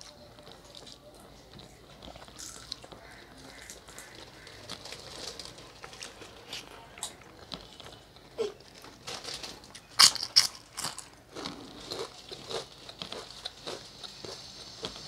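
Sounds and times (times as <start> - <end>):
person chewing crunchy food: 0.0 - 8.0, 9.7 - 15.0.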